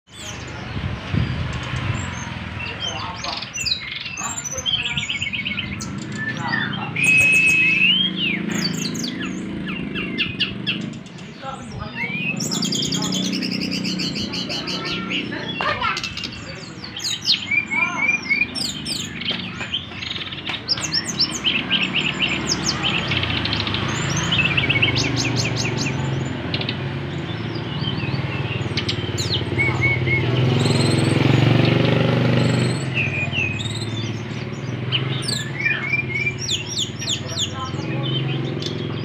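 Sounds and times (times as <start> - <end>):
bird singing quick chirps and trills: 0.0 - 39.0.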